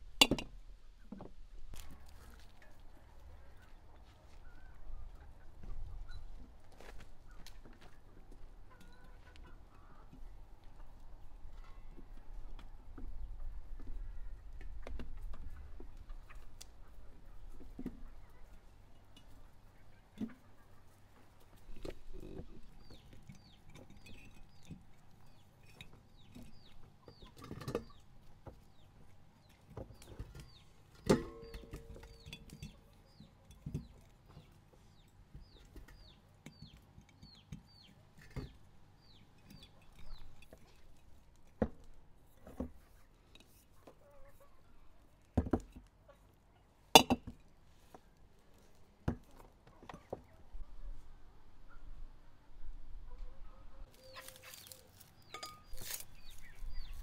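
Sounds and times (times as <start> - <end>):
chickens clucking: 1.0 - 41.2, 46.0 - 46.9, 49.3 - 51.0, 53.1 - 57.0.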